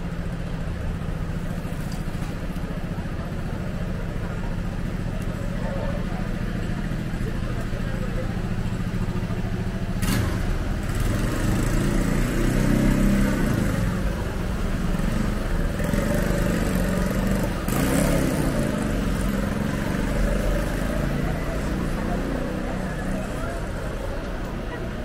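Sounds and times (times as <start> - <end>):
traffic noise: 0.0 - 25.0
vehicle engine running: 0.0 - 25.0.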